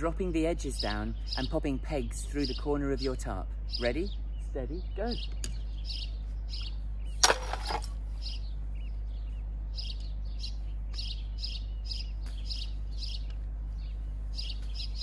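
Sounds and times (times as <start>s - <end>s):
songbird chirping: 0.0s - 15.0s
steady low hum: 0.0s - 15.0s.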